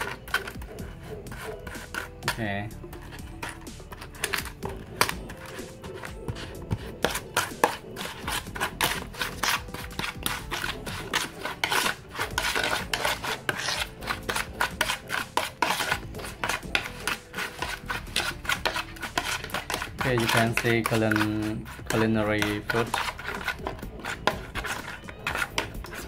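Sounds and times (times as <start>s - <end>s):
metal spoon scraping plastic basin: 0.0s - 26.0s.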